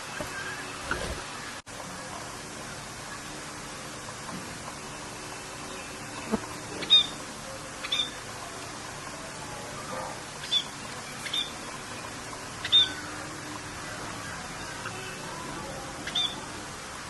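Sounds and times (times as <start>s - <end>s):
steady rain-like hiss: 0.0s - 17.0s.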